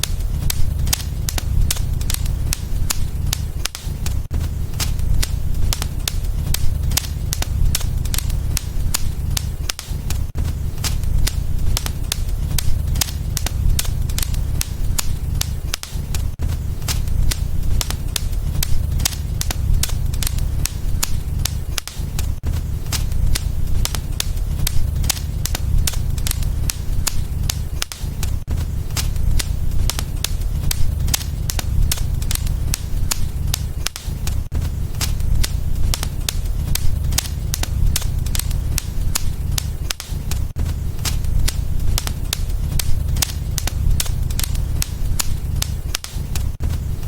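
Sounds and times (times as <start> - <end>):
low rumble of flames: 0.0 - 47.0
wood fire crackling and popping: 0.0 - 47.0.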